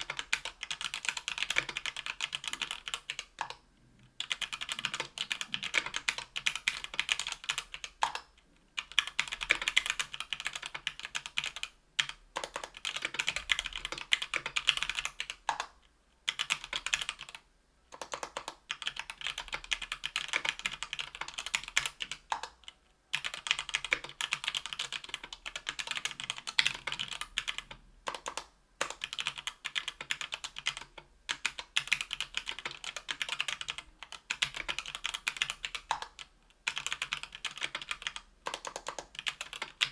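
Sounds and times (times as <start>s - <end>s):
fast typing on keyboard: 0.0s - 3.6s, 4.2s - 15.7s, 16.3s - 39.9s.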